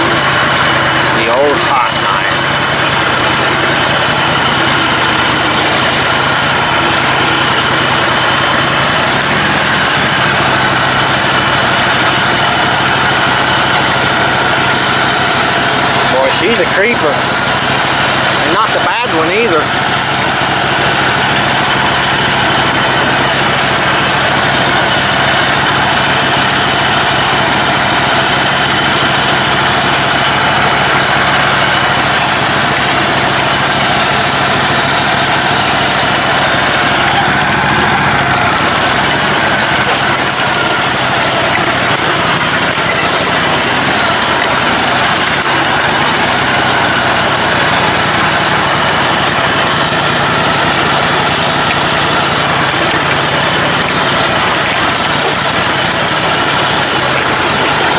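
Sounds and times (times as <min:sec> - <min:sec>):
riding mower engine running: 0:00.0 - 0:57.9.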